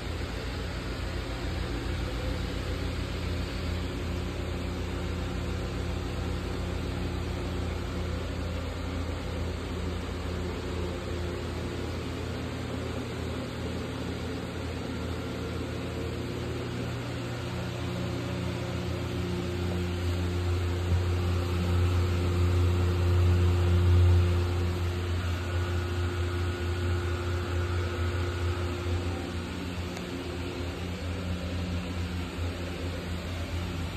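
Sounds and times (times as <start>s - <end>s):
blower fans whirring: 0.0s - 33.9s.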